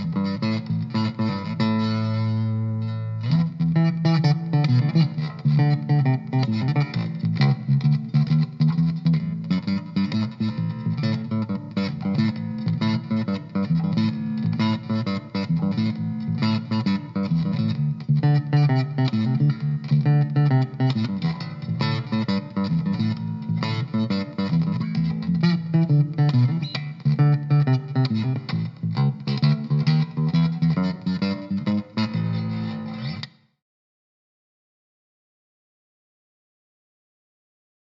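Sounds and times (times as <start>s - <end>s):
electric bass plucked notes: 0.0s - 33.3s.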